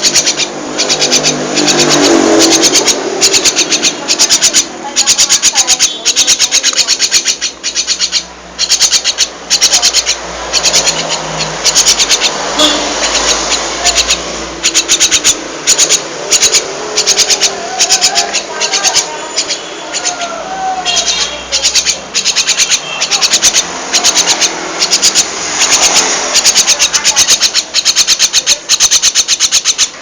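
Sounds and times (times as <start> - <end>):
starling chattering clicks: 0.0 - 30.0.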